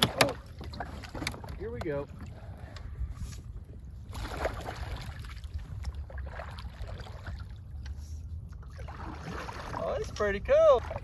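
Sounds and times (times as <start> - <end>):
paddle sloshing in water: 0.2 - 11.0.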